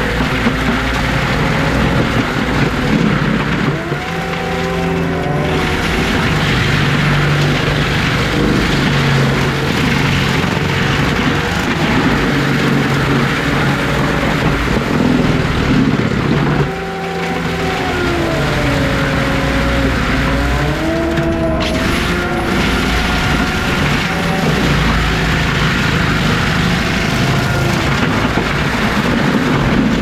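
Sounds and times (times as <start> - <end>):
heavy machinery engine working: 0.0 - 30.0
higher whine sliding: 0.0 - 30.0.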